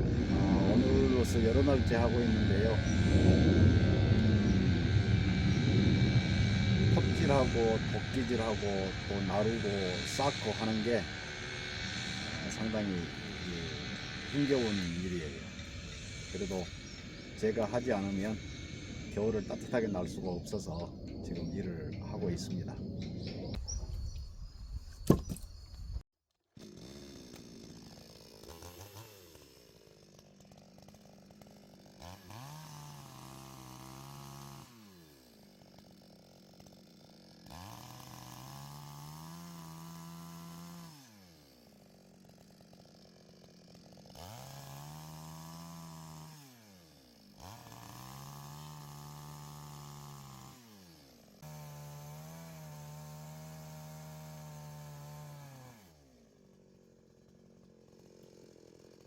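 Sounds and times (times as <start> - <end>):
chainsaw cutting firewood: 0.0 - 24.2, 25.0 - 26.0, 26.6 - 59.0.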